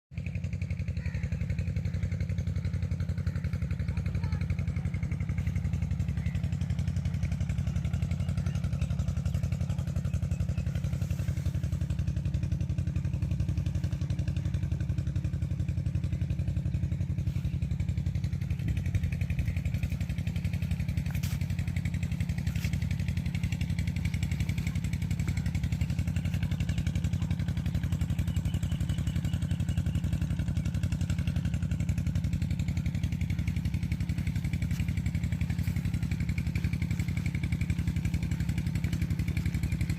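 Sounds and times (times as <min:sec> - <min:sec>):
diesel pump engine chugging: 0:00.1 - 0:39.9.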